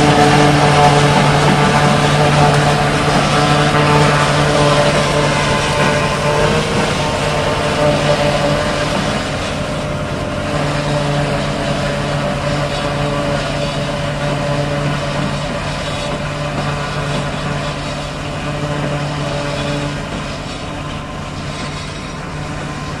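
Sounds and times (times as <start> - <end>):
harvester chopping and blowing: 0.0 - 23.0
tractor engine running: 0.0 - 23.0.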